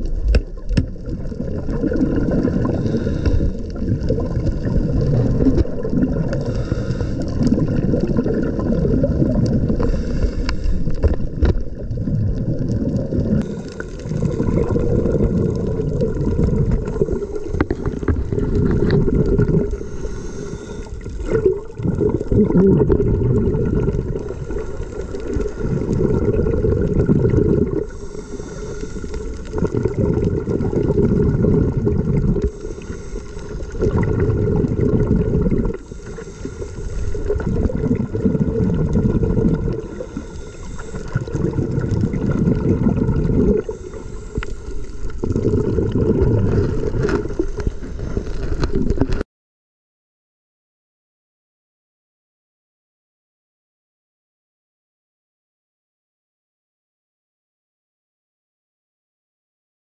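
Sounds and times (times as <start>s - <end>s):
muffled underwater churning rumble: 0.0s - 49.2s
water gurgling hiss: 1.0s - 49.2s.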